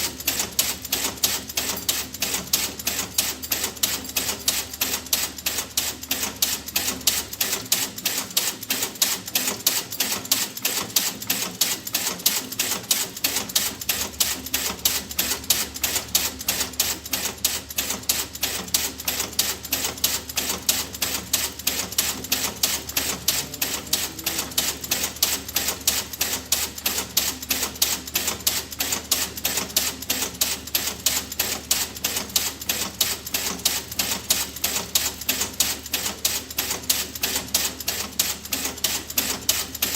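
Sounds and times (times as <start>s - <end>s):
rapid sharp clicks: 0.1s - 39.6s.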